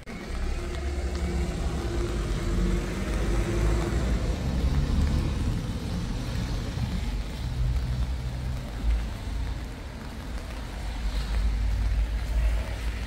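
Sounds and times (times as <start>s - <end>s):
rain on a wet street: 0.0s - 13.0s
vehicle engine rumbling: 0.0s - 13.0s.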